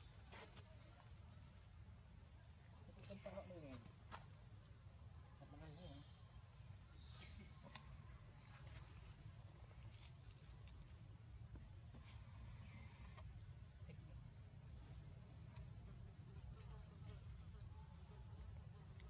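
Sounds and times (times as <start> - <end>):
insect chorus drone: 0.0 - 19.0.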